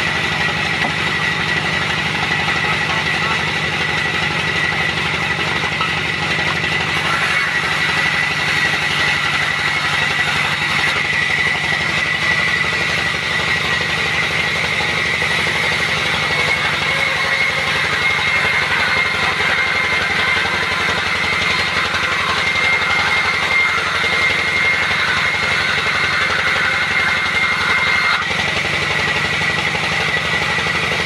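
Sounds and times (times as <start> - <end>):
sawmill machinery whine and pulsing: 0.0 - 31.0.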